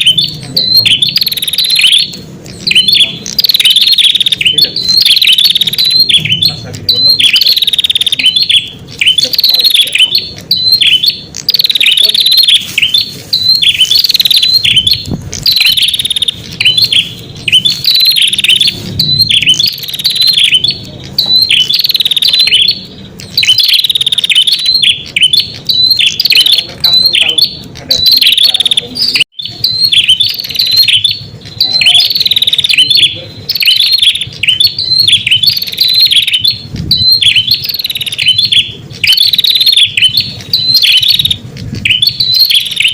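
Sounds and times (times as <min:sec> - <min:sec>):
bird high chirps: 0:00.0 - 0:42.9.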